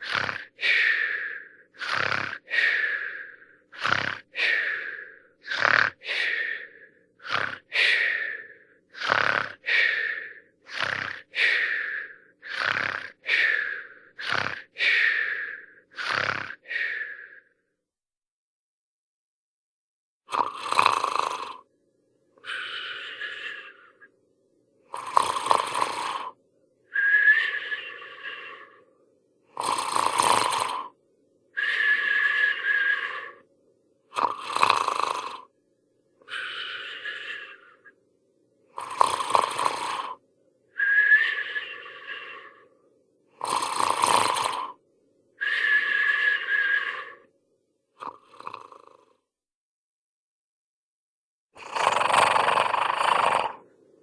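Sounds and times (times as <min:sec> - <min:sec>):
cartoon snoring with whistling breath: 0:00.0 - 0:17.7, 0:20.3 - 0:21.7, 0:22.4 - 0:24.1, 0:24.8 - 0:35.6, 0:36.2 - 0:38.0, 0:38.7 - 0:44.8, 0:45.4 - 0:49.4, 0:51.6 - 0:53.7.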